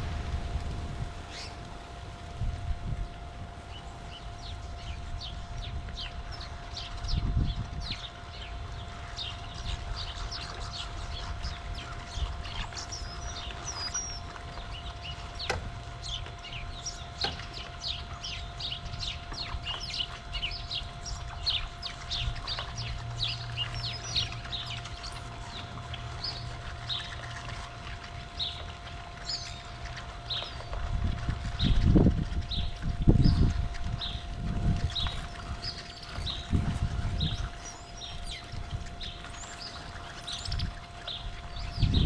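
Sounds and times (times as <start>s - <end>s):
faint steady hum: 0.0s - 42.0s
flock of songbirds chirping: 1.1s - 1.7s, 3.0s - 42.0s.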